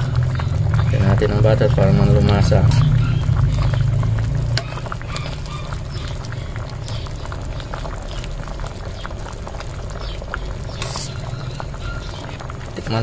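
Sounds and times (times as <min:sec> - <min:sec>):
soup bubbling: 0:00.0 - 0:13.0.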